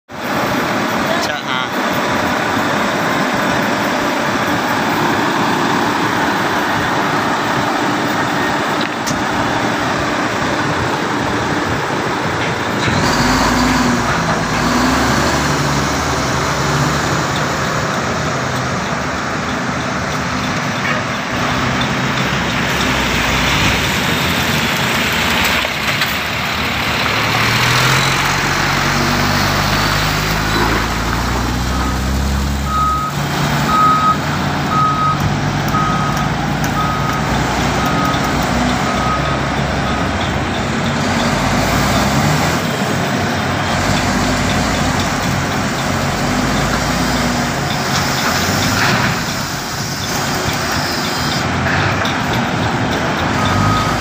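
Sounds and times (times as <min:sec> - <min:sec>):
wheel loader diesel engine: 0:00.1 - 0:54.0.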